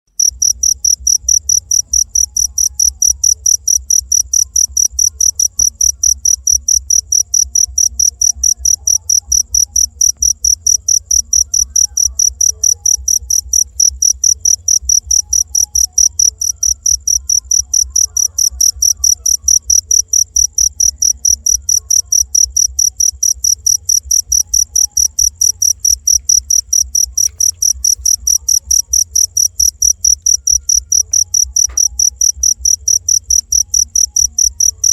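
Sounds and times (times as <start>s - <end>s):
cricket chirping: 0.2s - 34.9s
faint low hum: 0.2s - 34.9s.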